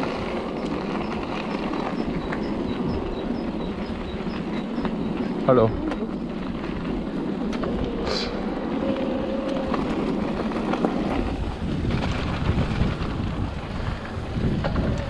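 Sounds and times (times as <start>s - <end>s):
bike rattles and clicks: 0.0s - 15.0s
bike tyres rumbling on rough ground: 0.0s - 15.0s
wind buffeting microphone: 0.0s - 15.0s.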